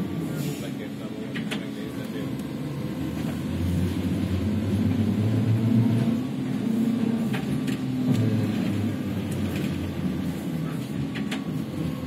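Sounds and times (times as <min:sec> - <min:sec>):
road rumble: 0:00.0 - 0:12.0
trolleybus electric drive hum: 0:00.0 - 0:12.0.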